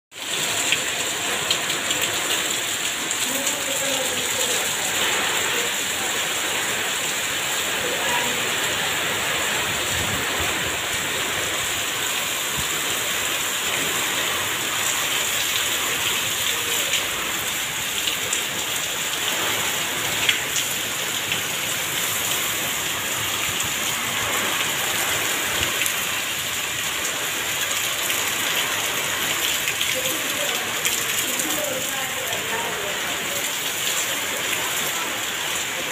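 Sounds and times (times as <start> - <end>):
heavy rain on the ground: 0.1 - 35.9.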